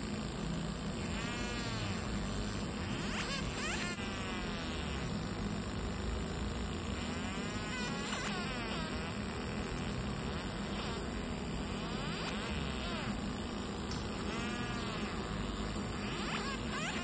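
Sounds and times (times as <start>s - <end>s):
constant low hum: 0.0s - 17.0s
laser engraver buzzing and whining: 0.0s - 17.0s.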